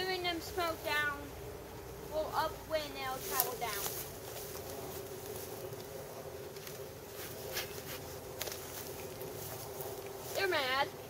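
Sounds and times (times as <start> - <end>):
honeybees swarming hum: 0.0 - 11.0.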